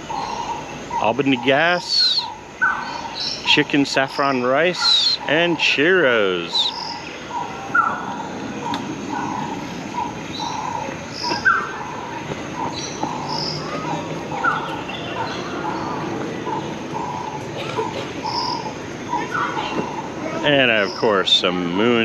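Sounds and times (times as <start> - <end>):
birds chirping and calling: 0.0 - 22.0.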